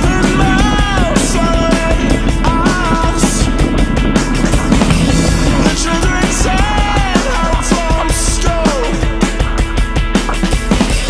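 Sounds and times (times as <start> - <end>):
rock music with fast drumbeat: 0.0 - 11.0.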